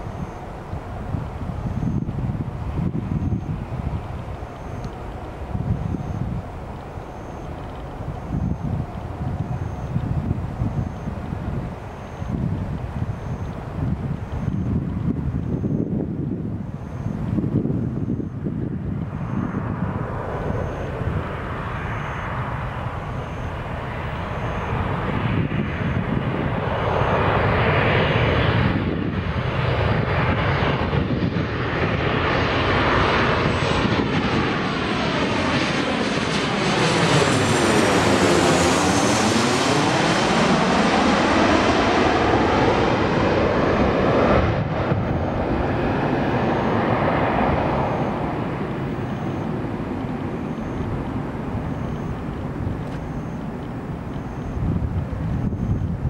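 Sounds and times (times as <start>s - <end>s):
jet engines passing overhead: 0.0s - 56.0s.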